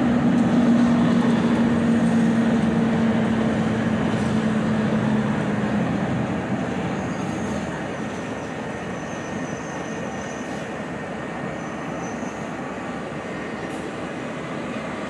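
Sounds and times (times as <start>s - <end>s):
vehicle running rumble: 0.0s - 15.0s.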